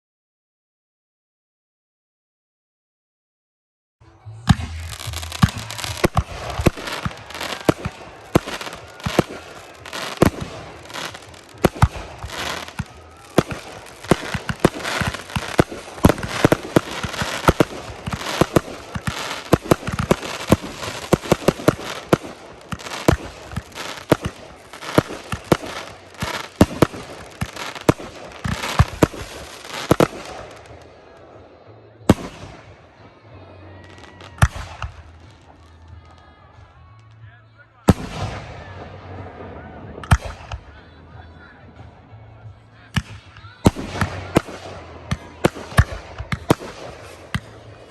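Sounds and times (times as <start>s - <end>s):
fireworks bangs: 4.3s - 36.4s, 37.9s - 42.2s, 42.8s - 47.9s
fireworks crackling: 4.3s - 37.2s, 37.8s - 47.9s.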